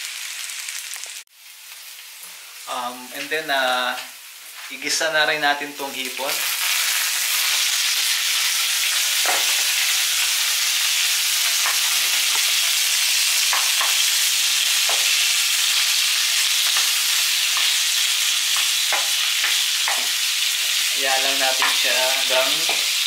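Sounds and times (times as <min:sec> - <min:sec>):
shrimp sizzling in frying pan: 0:00.0 - 0:23.0.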